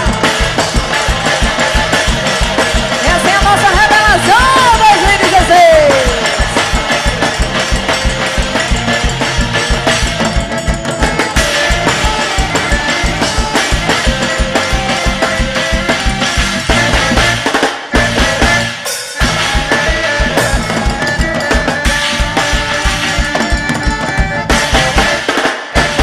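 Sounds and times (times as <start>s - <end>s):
band music with drum beat: 0.0s - 26.0s.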